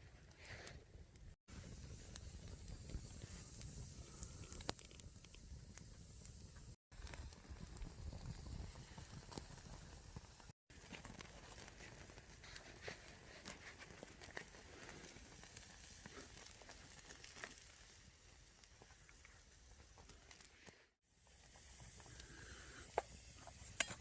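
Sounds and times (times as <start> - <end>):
small wood fire crackling: 0.0 - 24.0.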